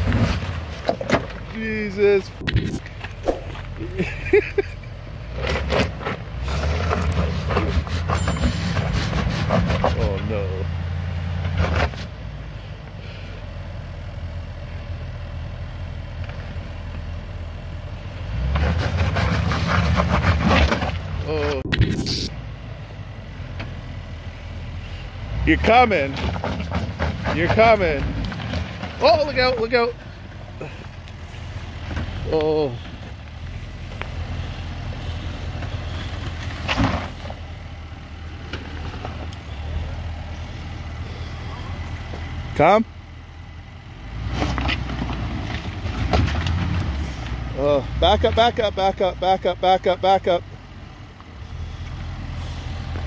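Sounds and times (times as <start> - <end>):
suv engine running at low revs: 0.0 - 53.0.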